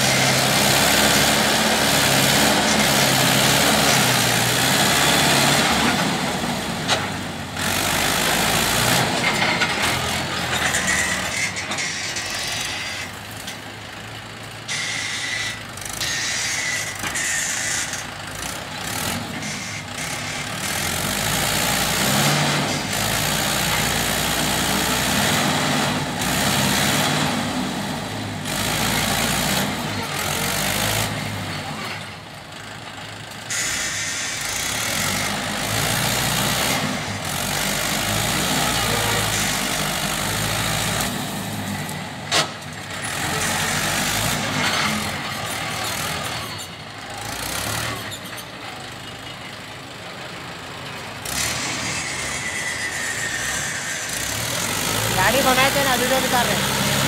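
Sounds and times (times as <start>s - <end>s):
tractor diesel engine working: 0.0s - 57.0s.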